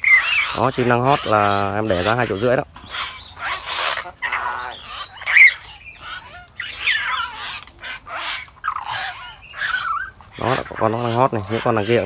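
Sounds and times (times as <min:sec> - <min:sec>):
mynas squawking and whistling: 0:00.0 - 0:12.0.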